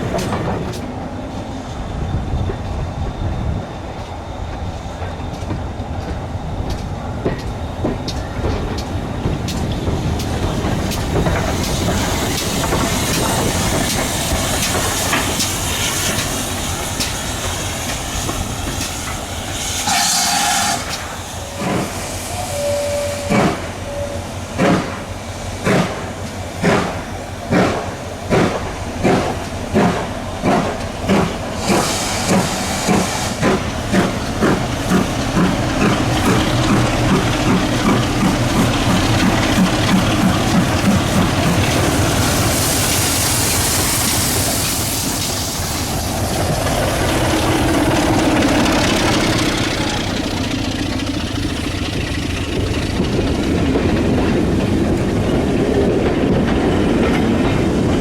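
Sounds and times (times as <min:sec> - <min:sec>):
steam locomotive hissing: 0:00.0 - 0:58.0
locomotive exhaust chuffing: 0:07.9 - 0:56.5.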